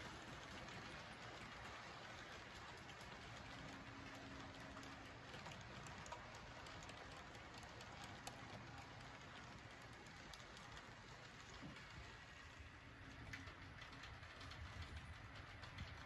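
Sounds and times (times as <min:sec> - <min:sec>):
model train cars rolling: 0:00.0 - 0:16.0
wheels clicking over rail joints: 0:00.0 - 0:16.0.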